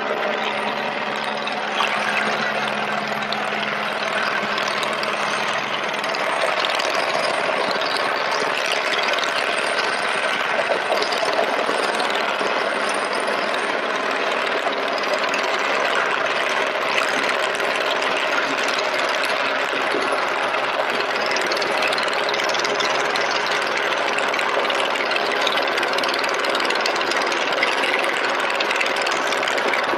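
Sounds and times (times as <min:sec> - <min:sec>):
helicopter rotor and engine: 0:00.0 - 0:29.9.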